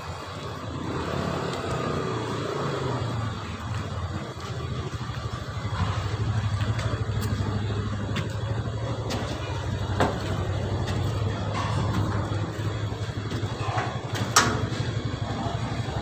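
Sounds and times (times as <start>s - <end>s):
engine running with fast pulse: 0.0s - 16.0s.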